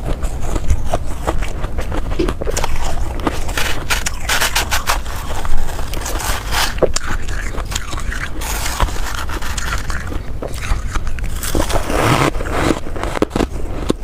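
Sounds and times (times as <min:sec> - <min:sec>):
ice being crunched and chewed: 0:00.0 - 0:14.0.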